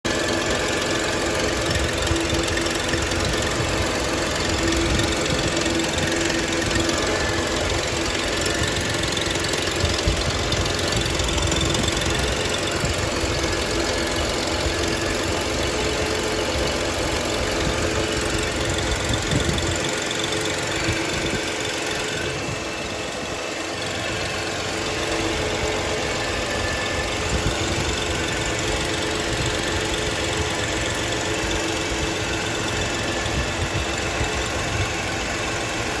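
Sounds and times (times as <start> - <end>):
car engine running with held tones: 0.0 - 36.0.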